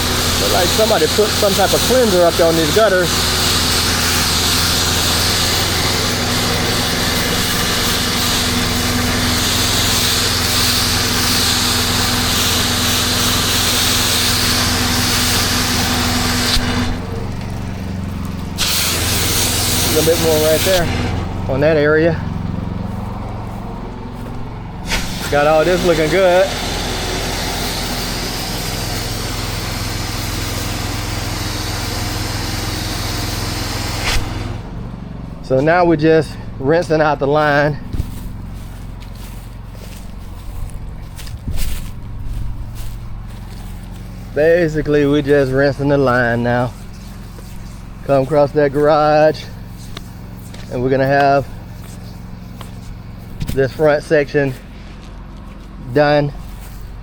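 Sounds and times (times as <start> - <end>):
high-pressure water spray hissing: 0.0 - 21.5, 22.2 - 34.8, 37.5 - 54.7
pressure washer engine running: 0.0 - 57.0.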